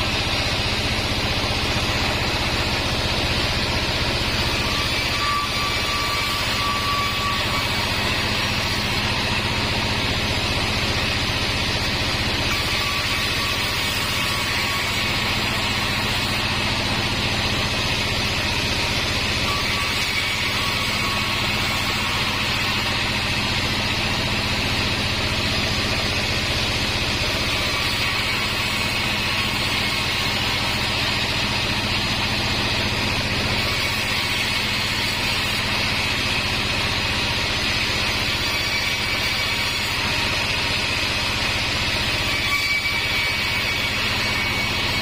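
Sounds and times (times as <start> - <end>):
bandsaw motor running: 0.0 - 45.0.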